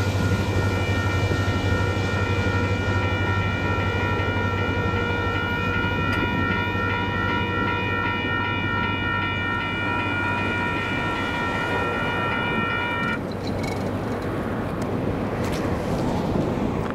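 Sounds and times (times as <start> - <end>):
railroad crossing bell ringing: 0.0 - 13.8.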